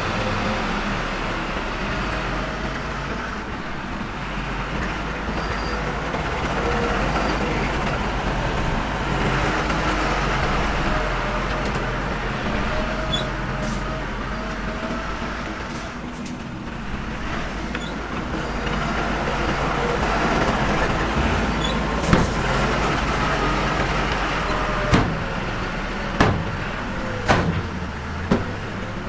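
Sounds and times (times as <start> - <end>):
diesel machinery engine running: 0.0 - 29.0.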